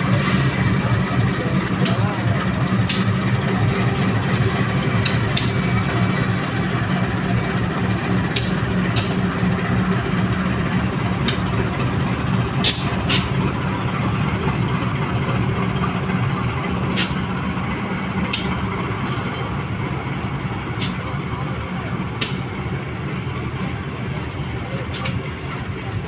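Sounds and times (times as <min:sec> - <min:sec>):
diesel locomotive engine humming: 0:00.0 - 0:26.0.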